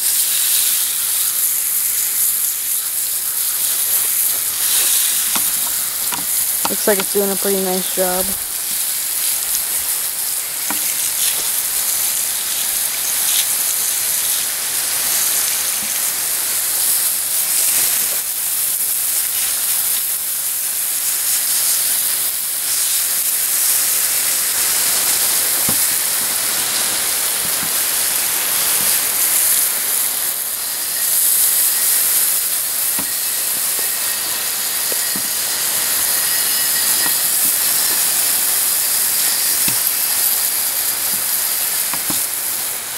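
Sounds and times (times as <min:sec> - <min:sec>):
water spray hissing: 0:00.0 - 0:42.9.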